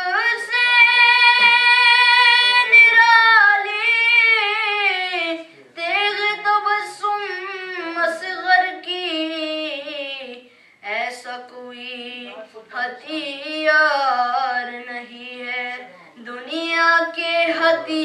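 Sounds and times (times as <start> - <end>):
boy singing solo: 0.0 - 18.0.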